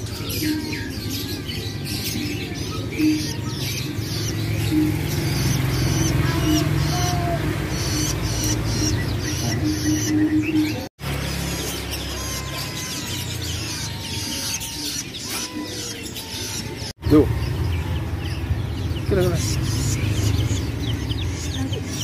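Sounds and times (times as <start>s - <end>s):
young birds chirping and begging: 0.0s - 22.0s.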